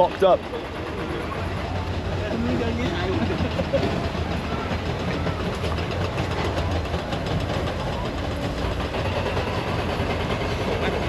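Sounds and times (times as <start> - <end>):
engines idling: 0.0 - 11.0
street noise: 0.0 - 11.0.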